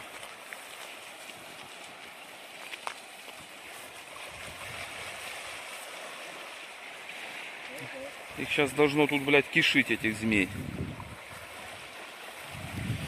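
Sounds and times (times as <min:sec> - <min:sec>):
small waves washing on rocks: 0:00.0 - 0:13.0.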